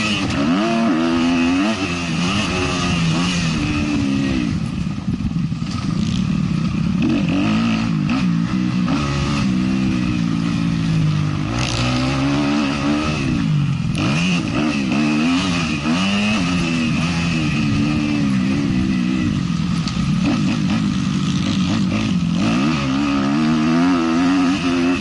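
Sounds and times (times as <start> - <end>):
motocross bike engine revving: 0.0 - 25.0.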